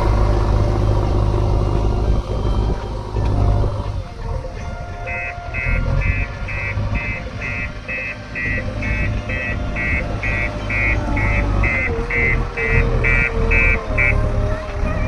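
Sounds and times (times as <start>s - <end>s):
diesel engine running: 0.0s - 15.0s
reversing alarm beeping: 0.0s - 15.0s.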